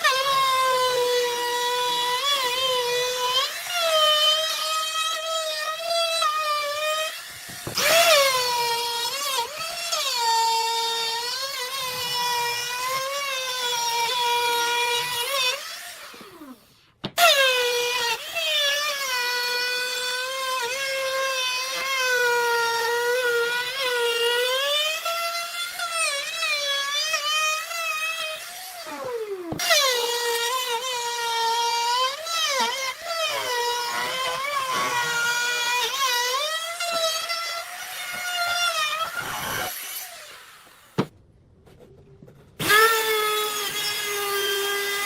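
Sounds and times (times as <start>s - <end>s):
electric power tool whining: 0.0s - 41.1s.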